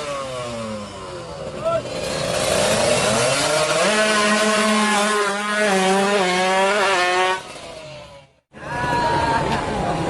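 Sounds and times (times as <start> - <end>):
two-stroke engine revving high: 0.0 - 8.4.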